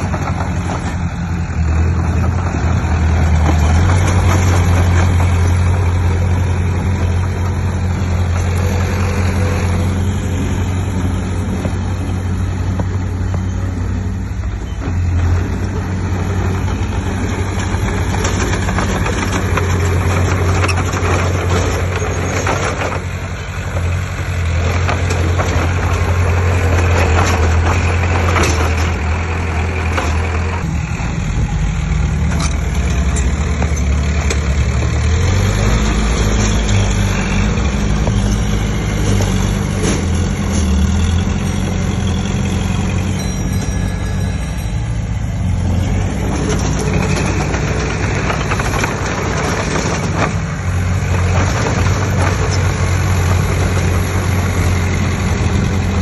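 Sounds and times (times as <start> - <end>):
knocks and clatter: 0.0 - 13.8, 14.6 - 30.7, 32.1 - 56.0
diesel earthmoving machinery running: 0.0 - 56.0.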